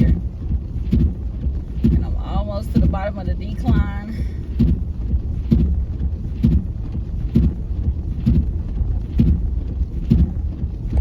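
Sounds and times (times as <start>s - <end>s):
engine and tyre rumble: 0.0s - 11.0s
windshield wipers thumping: 0.0s - 11.0s.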